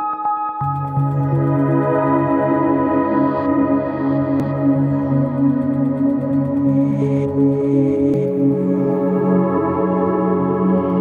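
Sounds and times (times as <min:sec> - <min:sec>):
ambient synthesizer chords: 0:00.0 - 0:11.0.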